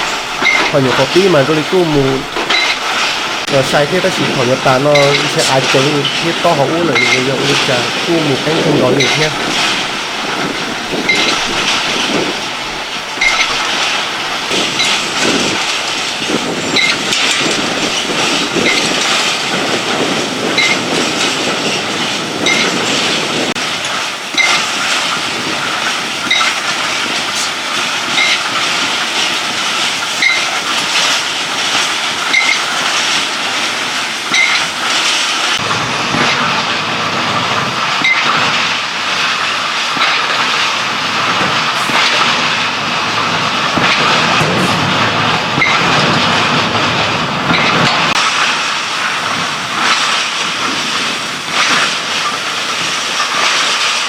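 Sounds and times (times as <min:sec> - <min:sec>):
machine running steadily: 0:00.0 - 0:54.0.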